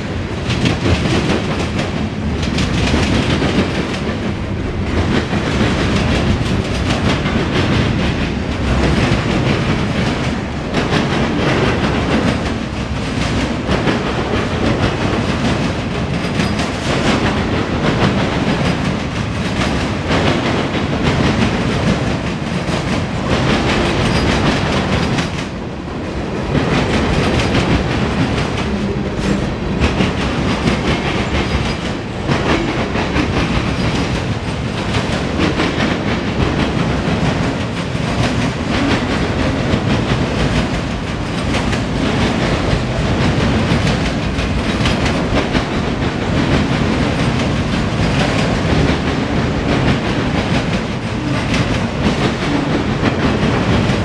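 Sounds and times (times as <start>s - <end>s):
freight cars rumbling and clattering: 0.0s - 54.0s.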